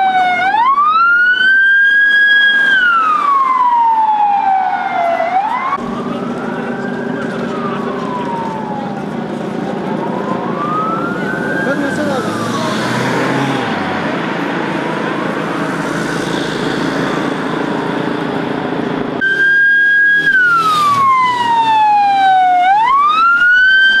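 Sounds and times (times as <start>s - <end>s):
loud ambulance siren: 0.0s - 17.6s, 19.2s - 24.0s
faint sirens wailing: 0.0s - 24.0s
street noise: 0.0s - 24.0s.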